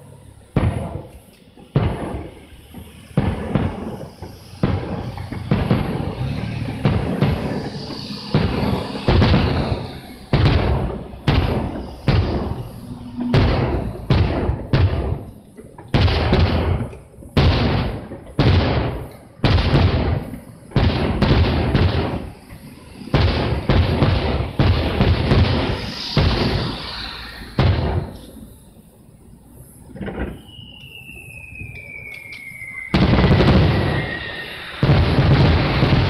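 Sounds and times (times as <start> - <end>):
rolling echo: 0.0 - 29.2, 29.8 - 36.0
firework shells bursting: 0.2 - 36.0.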